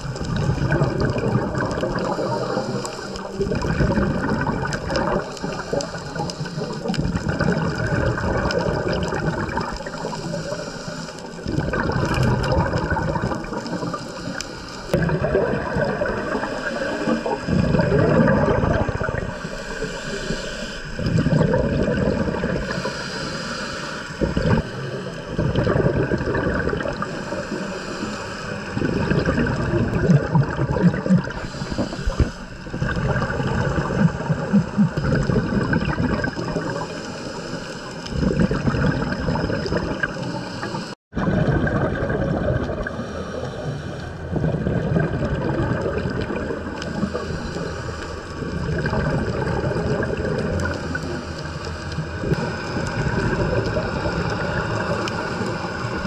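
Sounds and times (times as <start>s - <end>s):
water gurgling and rushing: 0.0s - 56.0s.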